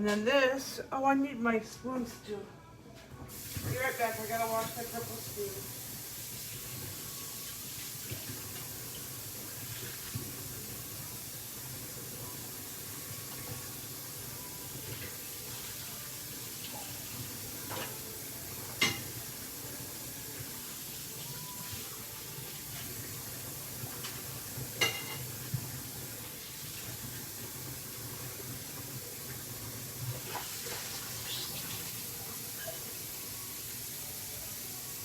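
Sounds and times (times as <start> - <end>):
kitchen tap running: 3.3 - 35.0.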